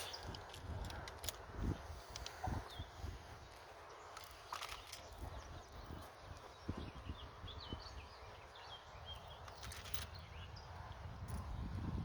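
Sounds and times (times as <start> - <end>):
small birds chirping: 0.0 - 12.0
wind rumbling on microphone: 0.0 - 12.0.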